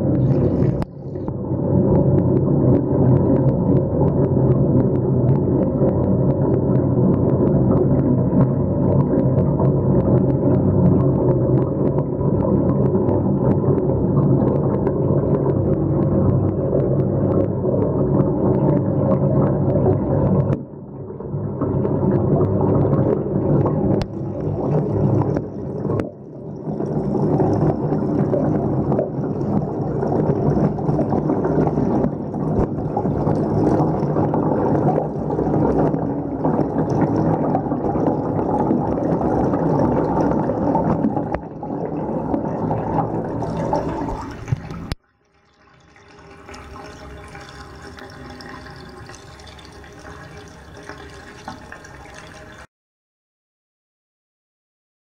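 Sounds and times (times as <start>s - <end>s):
water gurgling down a drain: 0.0s - 52.7s.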